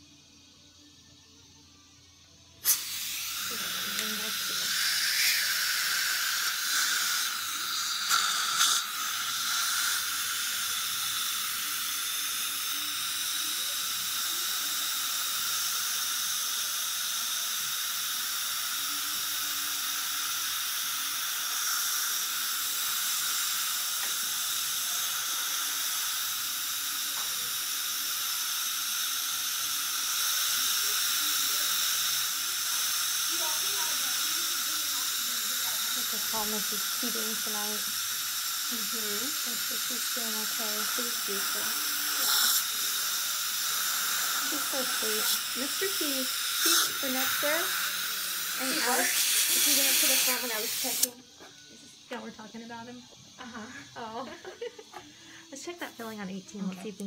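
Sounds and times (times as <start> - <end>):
dental suction hissing: 0.0 - 57.0.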